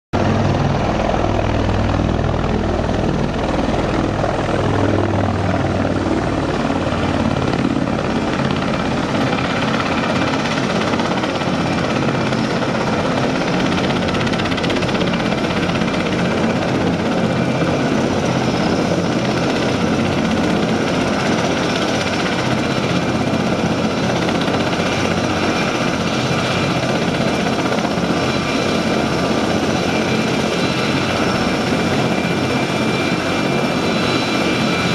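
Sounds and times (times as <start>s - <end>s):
aircraft rotor noise: 0.2s - 34.9s
high turbine engine whine: 0.2s - 34.9s.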